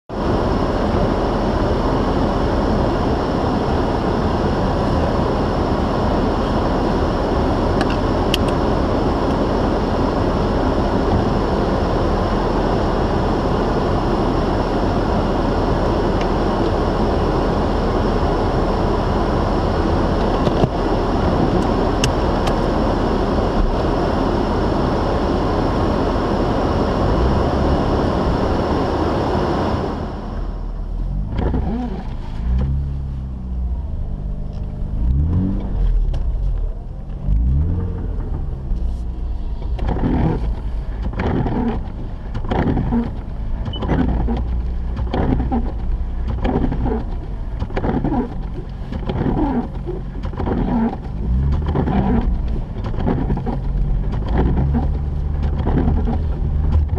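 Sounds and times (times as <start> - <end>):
rotary car engine: 0.1 - 56.9.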